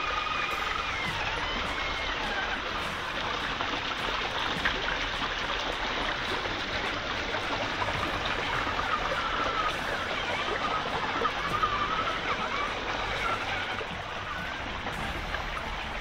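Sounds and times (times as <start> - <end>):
electric motor and gears whining: 0.0 - 16.0
steady rushing hiss: 0.0 - 16.0.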